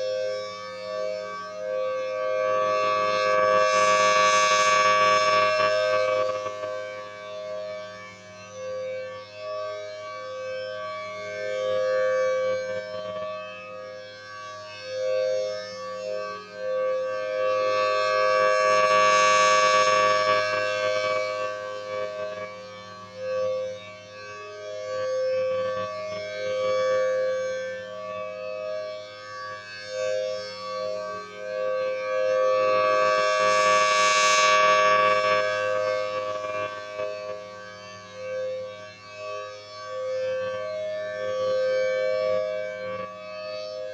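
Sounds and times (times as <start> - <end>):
two-tone warning siren: 0.0 - 8.7, 11.4 - 43.9.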